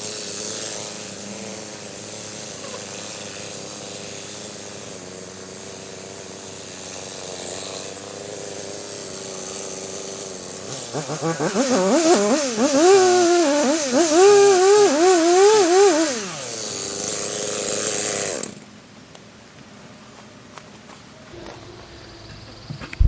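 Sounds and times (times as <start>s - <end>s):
chainsaw cutting wood: 0.0s - 18.7s.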